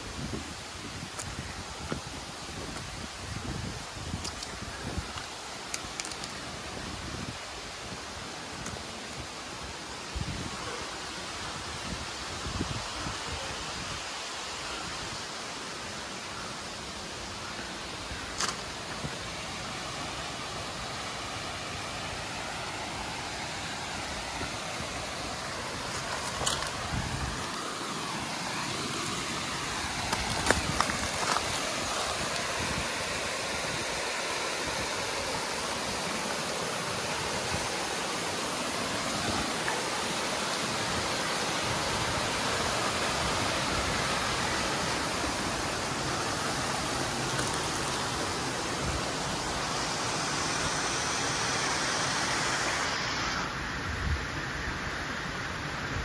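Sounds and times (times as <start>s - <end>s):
creek rushing over boulders: 0.0s - 56.0s.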